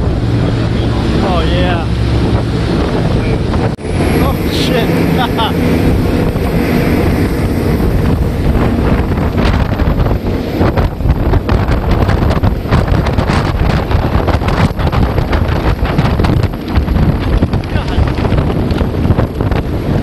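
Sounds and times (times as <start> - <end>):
water rushing and splashing: 0.0 - 20.0
wind buffeting microphone: 0.0 - 20.0.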